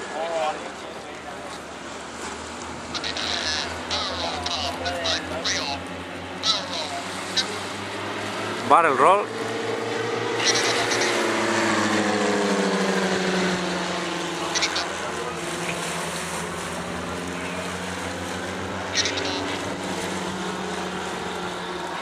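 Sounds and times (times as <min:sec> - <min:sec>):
propeller planes droning: 0:00.0 - 0:22.0.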